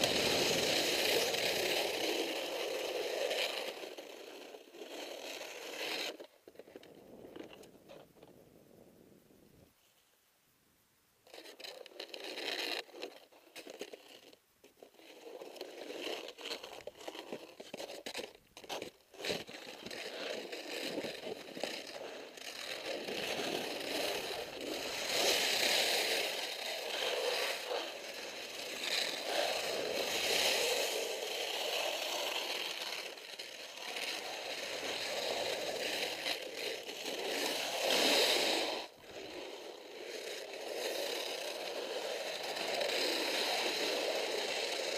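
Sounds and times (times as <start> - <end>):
skis scraping over snow: 0.0 - 8.1, 11.3 - 44.9.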